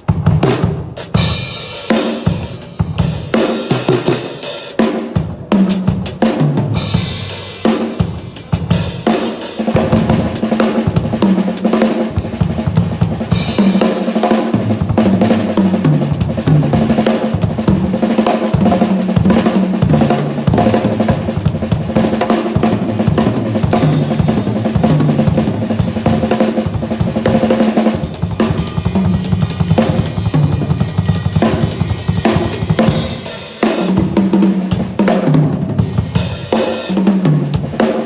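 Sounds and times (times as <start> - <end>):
drum kit playing: 0.0 - 38.0.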